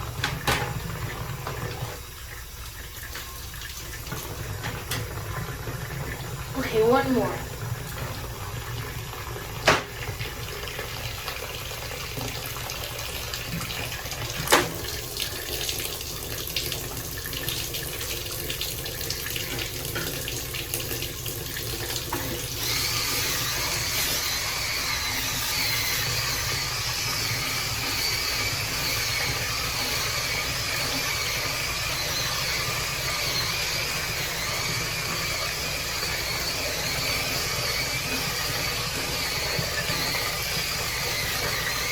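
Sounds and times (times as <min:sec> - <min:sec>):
tap water running into sink: 0:00.0 - 0:41.9.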